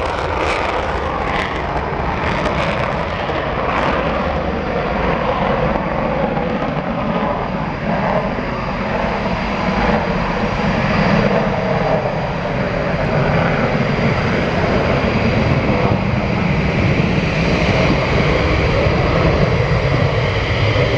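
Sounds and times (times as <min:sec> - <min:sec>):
jet engines roaring at takeoff: 0:00.0 - 0:20.9.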